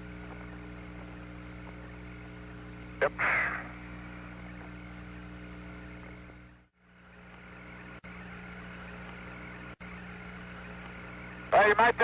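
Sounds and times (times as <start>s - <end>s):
radio channel hum and hiss: 0.0s - 12.0s.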